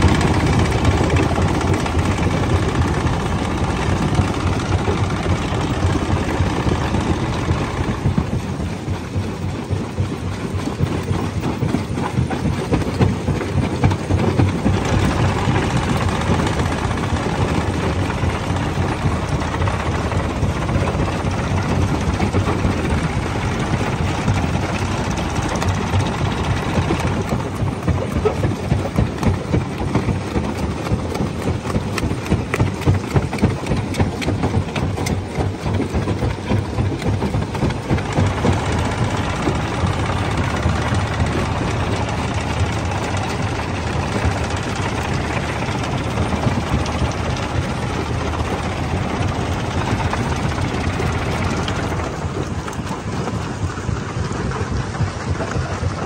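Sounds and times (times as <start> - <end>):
crusher mechanical drone: 0.0 - 56.0.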